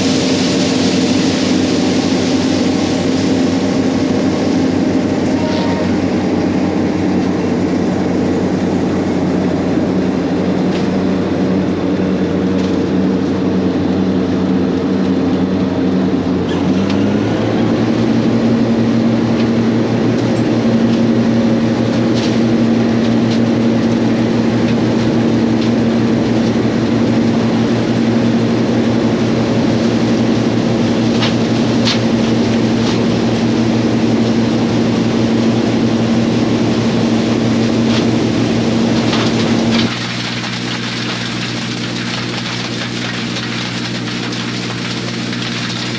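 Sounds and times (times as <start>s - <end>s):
combine engine and machinery drone: 0.0s - 45.9s.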